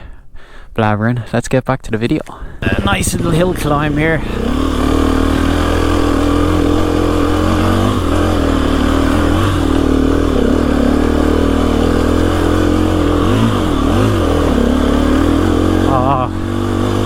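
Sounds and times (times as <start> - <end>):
dirt bike engine revving: 2.6 - 17.0.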